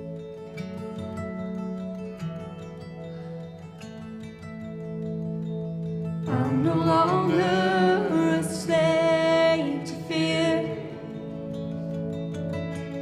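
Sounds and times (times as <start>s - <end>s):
live band with guitar: 0.0s - 13.0s.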